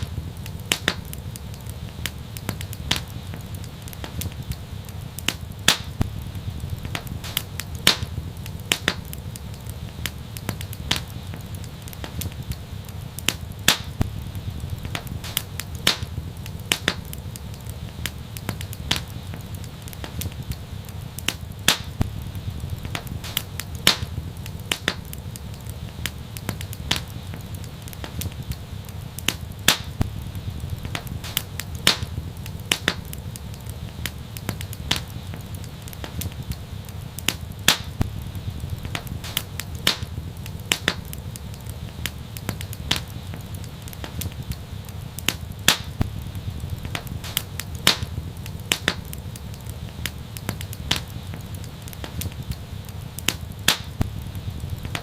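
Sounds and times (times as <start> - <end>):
low rumble of burning: 0.0 - 55.0
wood fire popping and snapping: 0.0 - 55.0.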